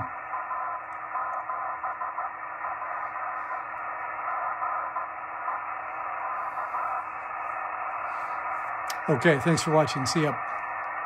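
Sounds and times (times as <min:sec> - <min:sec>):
radio receiver hiss and static: 0:00.0 - 0:11.0.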